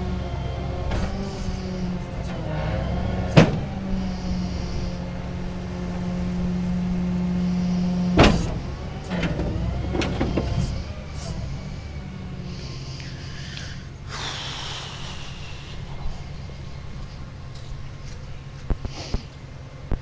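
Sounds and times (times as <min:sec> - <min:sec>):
tow truck mechanical hum: 0:00.0 - 0:20.0.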